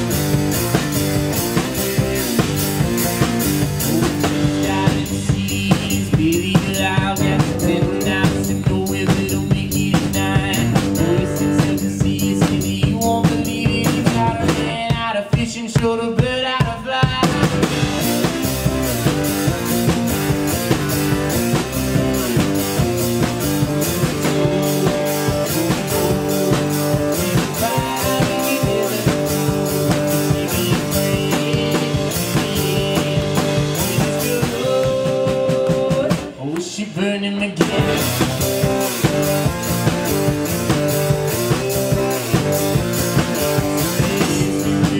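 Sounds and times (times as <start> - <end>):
drum kit beat: 0.0 - 36.4, 37.5 - 44.9.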